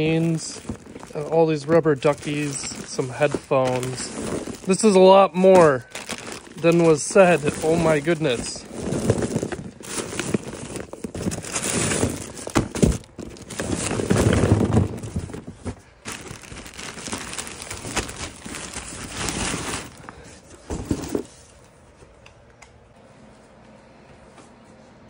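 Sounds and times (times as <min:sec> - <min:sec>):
plastic bags crinkling and rustling: 0:00.0 - 0:21.5.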